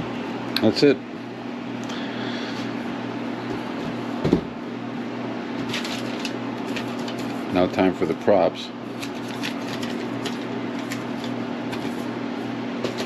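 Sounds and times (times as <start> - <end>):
steady low fan hum: 0.0 - 13.0.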